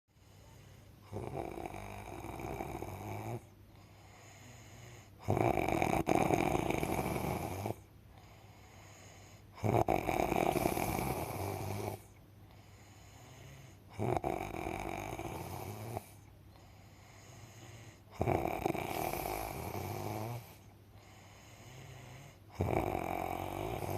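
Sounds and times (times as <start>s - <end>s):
quiet breathing: 0.1s - 23.9s
loud snoring: 0.5s - 23.9s.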